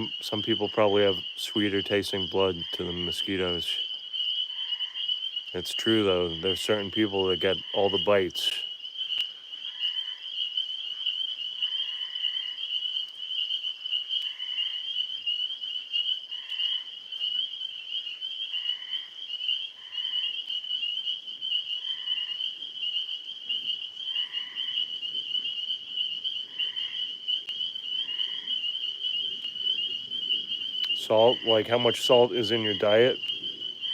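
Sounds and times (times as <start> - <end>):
frogs trilling drone: 0.0 - 33.9.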